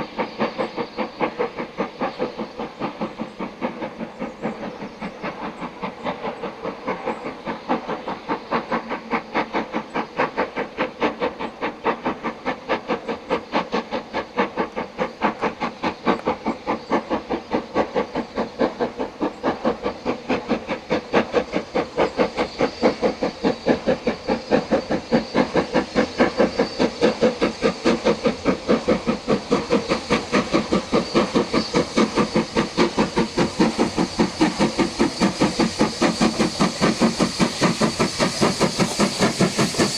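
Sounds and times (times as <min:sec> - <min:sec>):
steam locomotive exhaust chuffing: 0:00.0 - 0:39.9.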